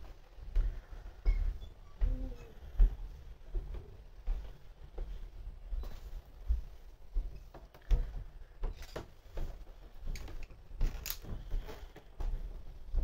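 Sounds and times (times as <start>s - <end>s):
footsteps walking: 0.0s - 13.0s.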